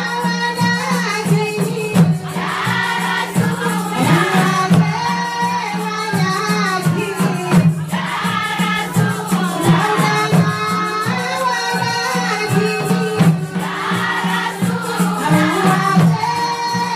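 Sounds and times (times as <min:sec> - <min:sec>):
women's group singing: 0:00.0 - 0:16.9.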